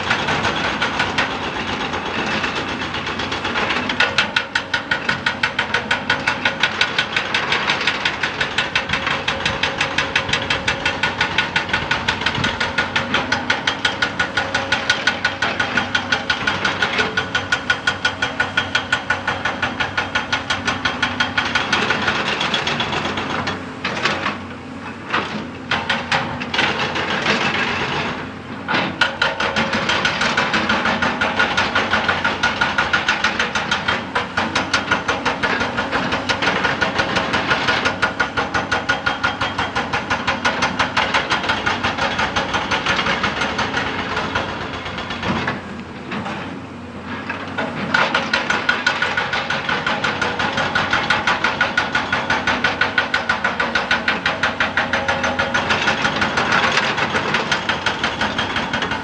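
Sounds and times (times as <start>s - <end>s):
hydraulic rock breaker hammering: 0.0s - 59.0s.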